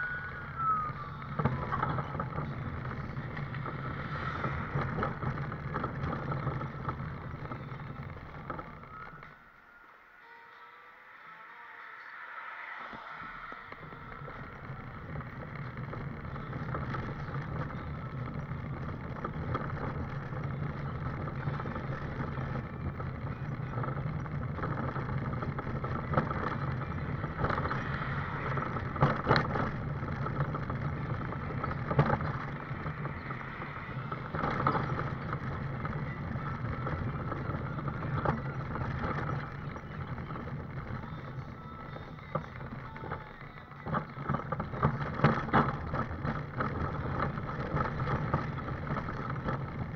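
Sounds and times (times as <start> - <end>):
scooter engine hum and rattle: 0.0 - 9.6, 12.8 - 49.9.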